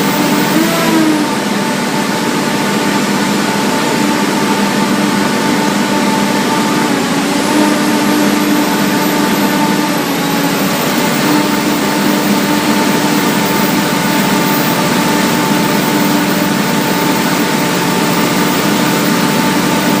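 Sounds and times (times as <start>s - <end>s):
diesel generator droning: 0.0s - 20.0s.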